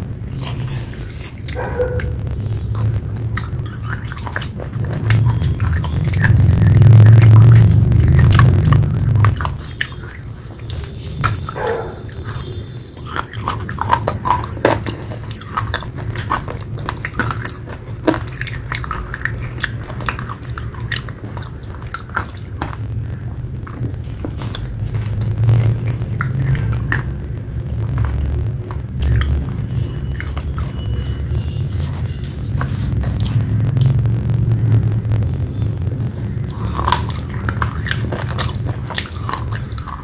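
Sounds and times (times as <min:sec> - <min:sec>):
low hum: 0:00.0 - 0:40.0
chewing with wet mouth clicks: 0:00.3 - 0:22.9, 0:23.6 - 0:27.2, 0:27.8 - 0:34.0, 0:36.2 - 0:40.0.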